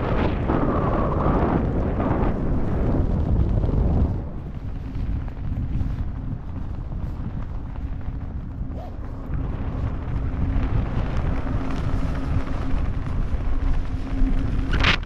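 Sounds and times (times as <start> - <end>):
steady low hum: 0.0 - 15.0
wind rushing over microphone: 0.0 - 15.0.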